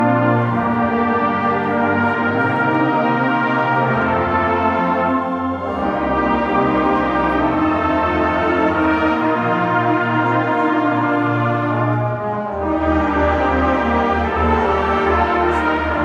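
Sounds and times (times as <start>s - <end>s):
brass band playing slow chords: 0.0s - 16.0s.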